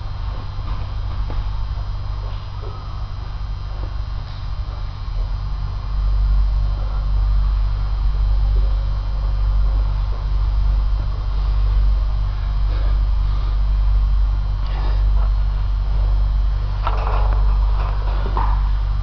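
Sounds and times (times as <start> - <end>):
low electrical hum: 0.0 - 19.0
pulsing buzz: 0.0 - 19.0.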